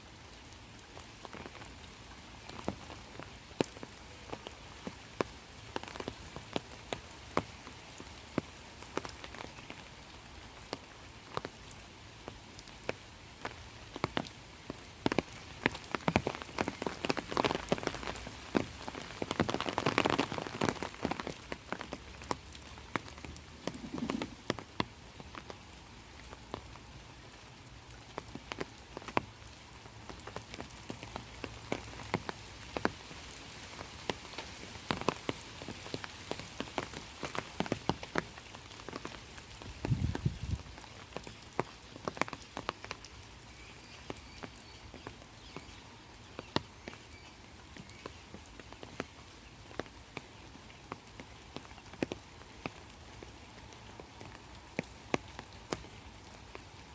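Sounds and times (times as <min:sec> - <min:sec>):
rain drops pattering: 0:00.0 - 0:56.9.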